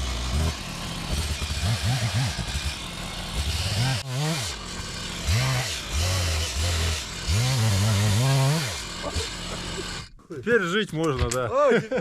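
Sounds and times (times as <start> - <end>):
chainsaw engine revving: 0.0 - 10.2.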